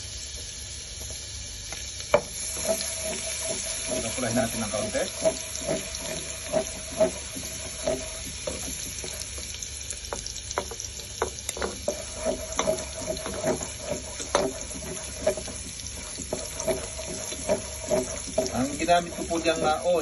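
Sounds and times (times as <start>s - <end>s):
garlic sizzling in oil: 0.0s - 20.0s
spatula scraping and knocking pan: 2.2s - 9.4s, 10.1s - 20.0s.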